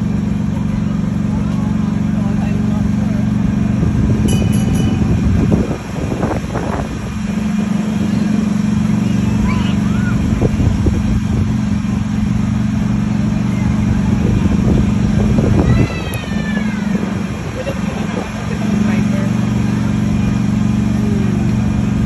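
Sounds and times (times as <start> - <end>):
ride train engine droning: 0.0 - 22.0.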